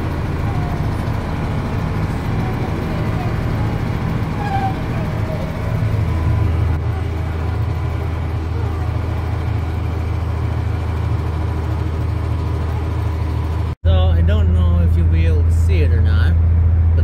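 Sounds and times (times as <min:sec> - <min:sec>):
tractor diesel engine drone: 0:00.0 - 0:17.0.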